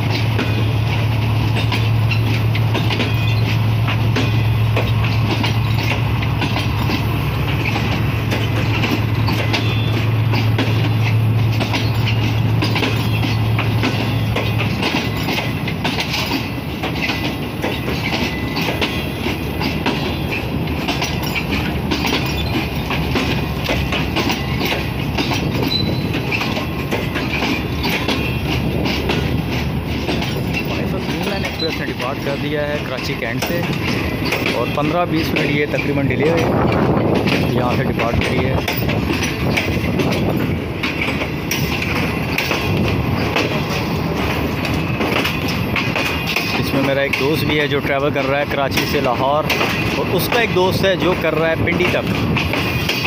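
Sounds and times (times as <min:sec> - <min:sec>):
train wheels clicking over rail joints: 0:00.0 - 0:53.0.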